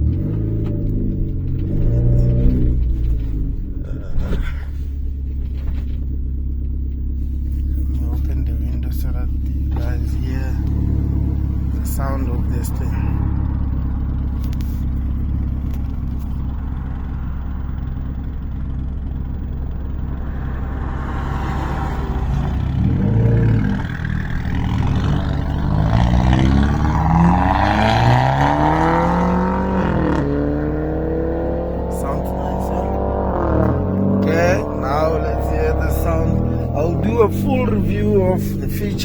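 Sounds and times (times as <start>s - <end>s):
car engine drone rising with gear shifts: 0.0s - 39.0s.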